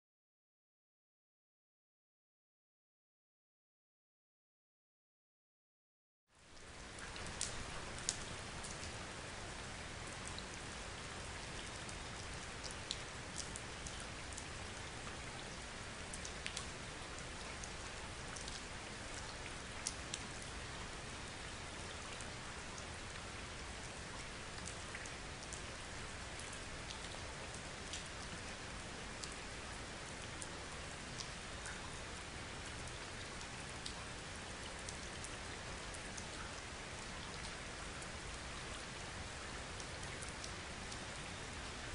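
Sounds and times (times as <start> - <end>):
steady outdoor hiss: 6.4 - 41.9.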